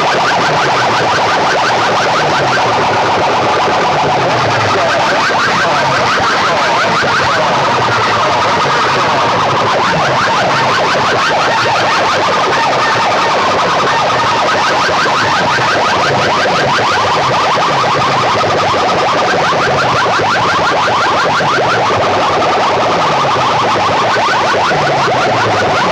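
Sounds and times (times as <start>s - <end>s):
electronic siren over loudspeaker: 0.0s - 25.9s.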